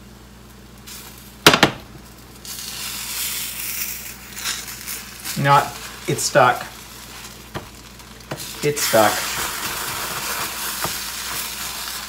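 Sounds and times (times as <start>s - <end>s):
pancake sizzling in a pan: 0.5s - 1.4s, 2.0s - 12.0s.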